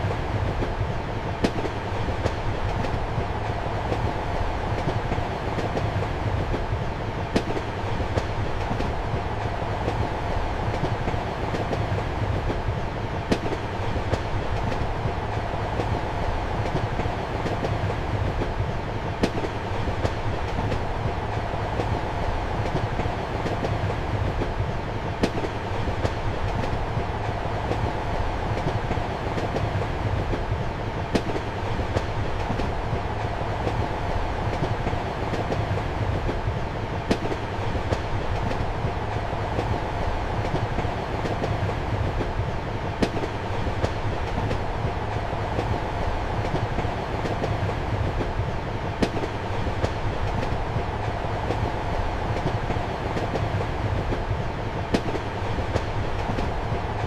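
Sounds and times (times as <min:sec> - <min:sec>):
train rumble and hum: 0:00.0 - 0:57.0.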